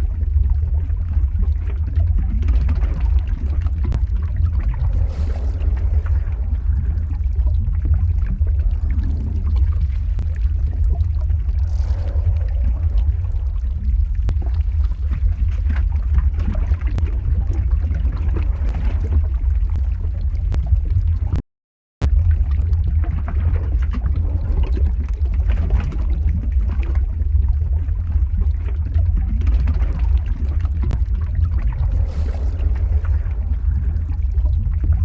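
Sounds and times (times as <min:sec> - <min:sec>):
lava flow rumble: 0:00.0 - 0:21.4, 0:22.0 - 0:35.0.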